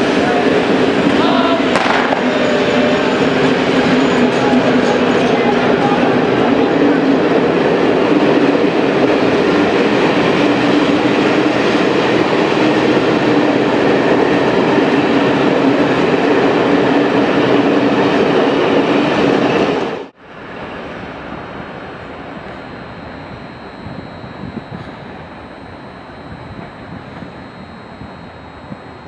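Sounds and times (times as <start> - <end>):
train wheels rumbling over rails: 0.0 - 29.0.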